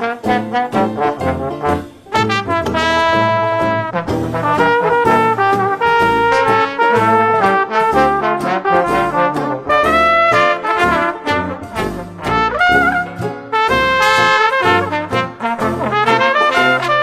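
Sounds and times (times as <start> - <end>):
jazz band playing: 0.0 - 17.0
trombone melody: 0.0 - 17.0
trumpet melody: 0.0 - 17.0.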